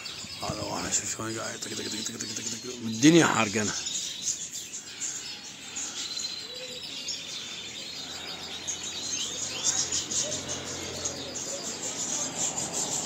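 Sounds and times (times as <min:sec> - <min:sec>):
small birds chirping and twittering: 0:00.0 - 0:13.0.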